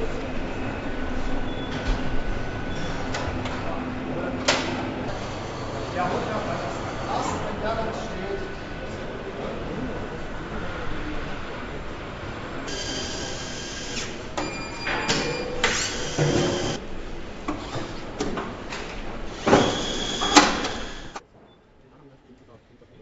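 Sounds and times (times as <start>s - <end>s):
machinery hum: 0.0s - 21.2s
hissing and whirring tools: 0.1s - 10.8s, 12.6s - 16.8s, 17.5s - 21.2s.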